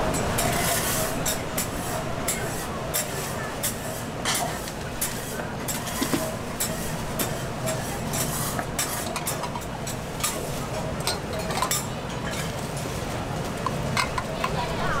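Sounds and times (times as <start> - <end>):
utensils and dishes clinking: 0.0 - 14.8
street noise: 0.0 - 15.0.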